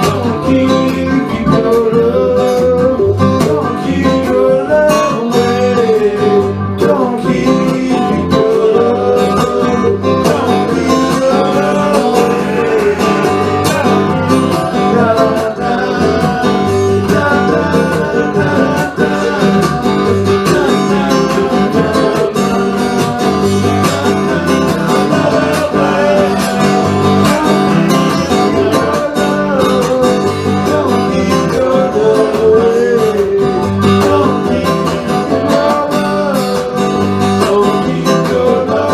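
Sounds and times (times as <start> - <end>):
country acoustic guitar music: 0.0 - 38.9.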